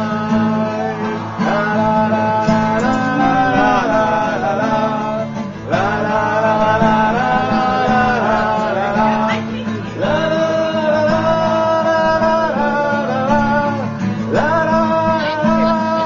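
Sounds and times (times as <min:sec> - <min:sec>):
acoustic guitar playing: 0:00.0 - 0:16.0
person singing wordless melody: 0:00.0 - 0:16.0.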